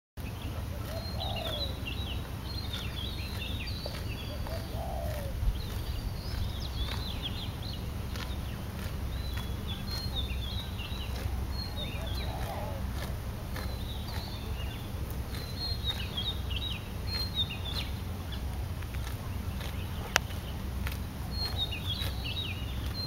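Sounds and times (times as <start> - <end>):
lower bird call: 0.2 - 23.0
small birds chirping: 0.2 - 23.0
steady low rumble: 0.2 - 23.0.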